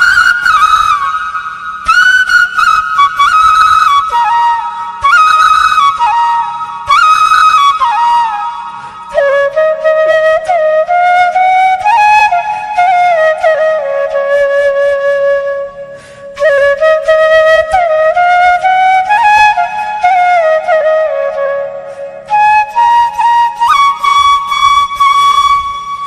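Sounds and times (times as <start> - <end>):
bamboo flute melody: 0.0 - 26.0.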